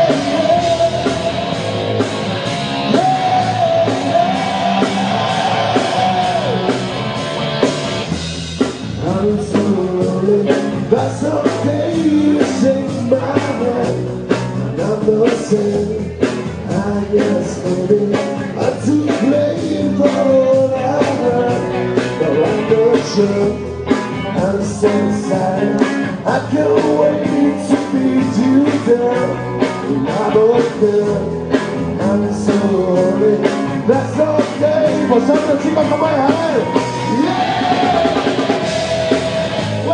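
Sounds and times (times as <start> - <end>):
drum kit beat: 0.0 - 39.9
electric guitar: 0.0 - 39.9
live rock band: 0.0 - 39.9.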